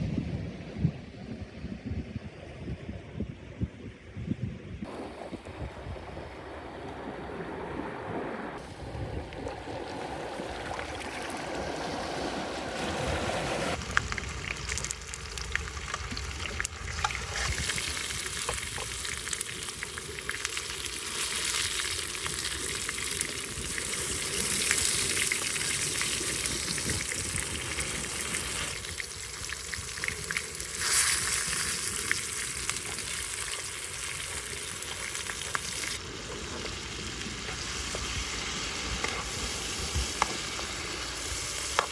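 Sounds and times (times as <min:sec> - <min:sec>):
wind: 0:00.0 - 0:41.9
water: 0:04.8 - 0:41.9.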